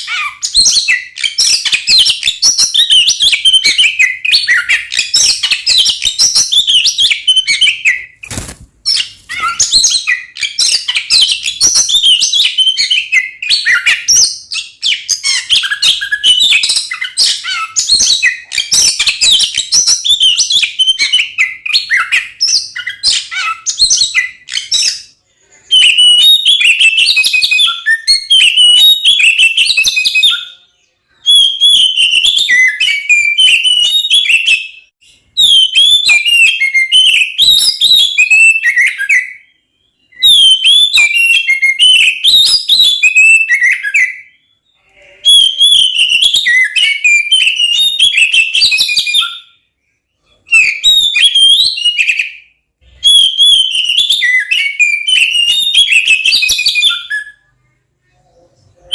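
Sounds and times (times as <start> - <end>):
bird singing whistles and chatter: 8.9 - 49.6, 50.5 - 57.5.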